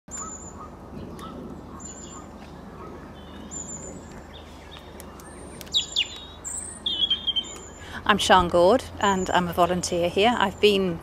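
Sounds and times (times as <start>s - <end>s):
small birds singing: 0.1s - 11.0s.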